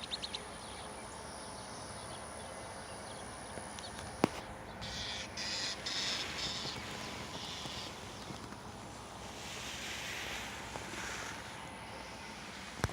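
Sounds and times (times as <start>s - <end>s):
faint high whine: 0.0s - 12.9s.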